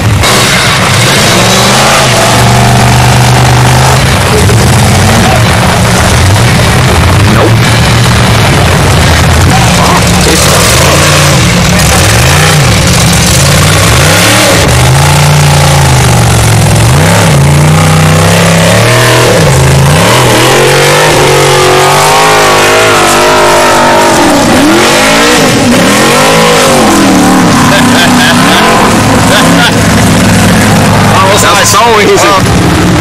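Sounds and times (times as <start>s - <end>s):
buggy engines revving hard: 0.0s - 33.0s.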